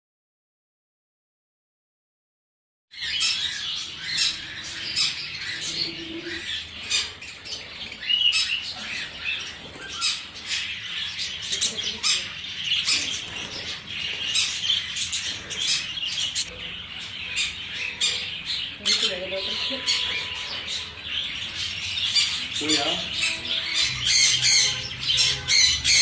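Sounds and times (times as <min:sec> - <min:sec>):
birds chirping and squawking: 0:02.9 - 0:26.0.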